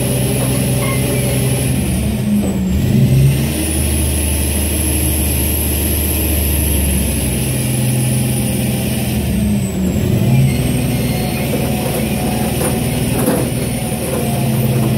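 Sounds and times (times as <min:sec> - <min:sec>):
truck diesel engine running: 0:00.0 - 0:14.9.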